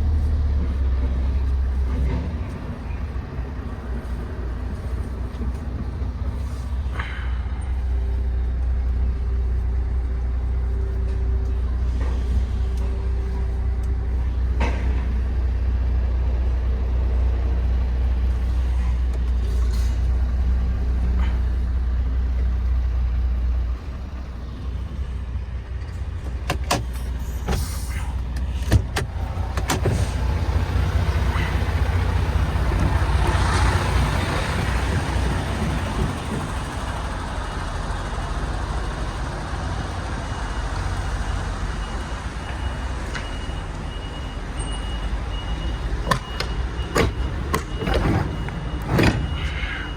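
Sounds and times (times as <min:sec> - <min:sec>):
diesel truck engine rumbling: 0:00.0 - 0:49.9.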